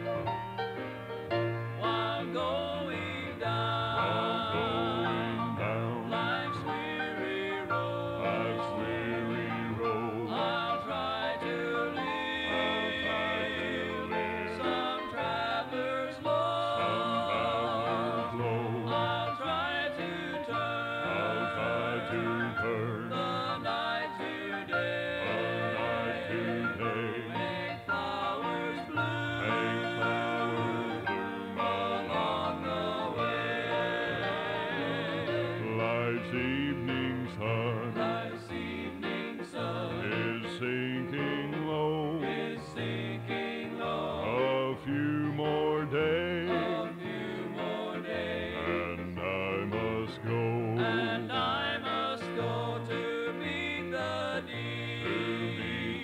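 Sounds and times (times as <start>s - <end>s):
country-style instrumental backing: 0.0s - 56.0s
gospel vocal group singing: 1.4s - 56.0s.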